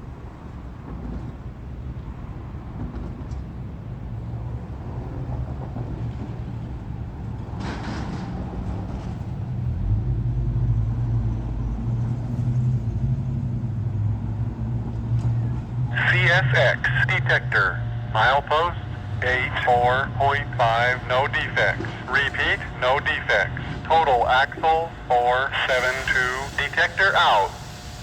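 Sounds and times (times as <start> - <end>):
freight train rolling past: 0.4 - 28.0.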